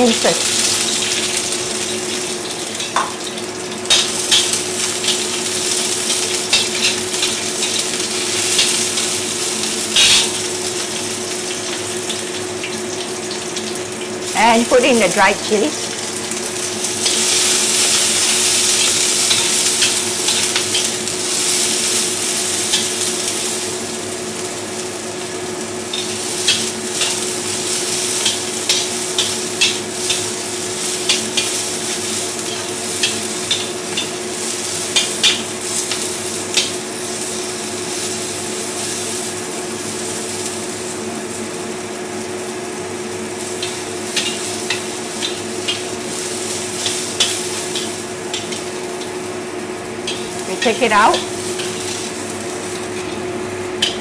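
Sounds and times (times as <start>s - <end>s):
shallots sizzling in hot oil: 0.0s - 54.0s.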